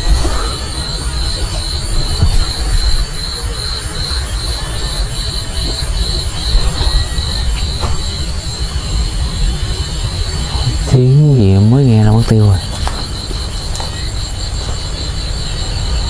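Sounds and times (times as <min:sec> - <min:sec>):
heavy low rumble: 0:00.0 - 0:16.0
night insects trilling: 0:00.0 - 0:16.0.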